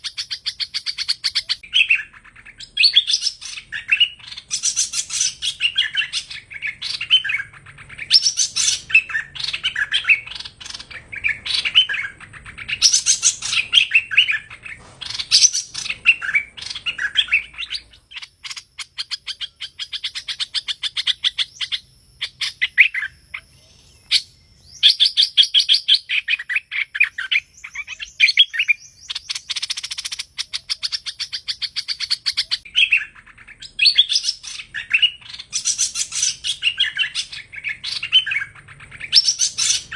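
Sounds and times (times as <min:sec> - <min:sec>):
bird singing and trilling: 0:00.0 - 0:39.9.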